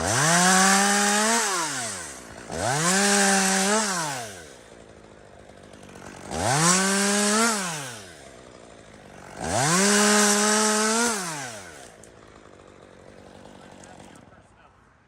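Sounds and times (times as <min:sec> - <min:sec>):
chainsaw revving: 0:00.0 - 0:14.7.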